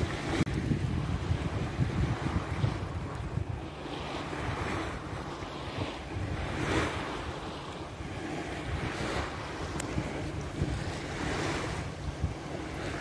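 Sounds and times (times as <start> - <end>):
waves washing: 0.0 - 13.0
wind buffeting microphone: 0.0 - 13.0.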